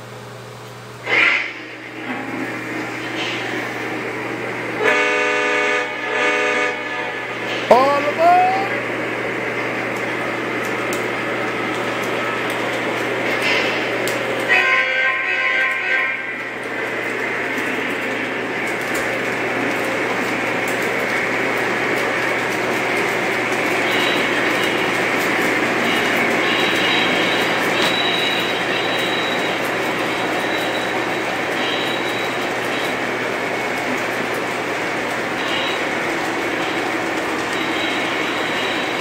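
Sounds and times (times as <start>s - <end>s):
model trains rumbling on track: 1.1s - 39.0s.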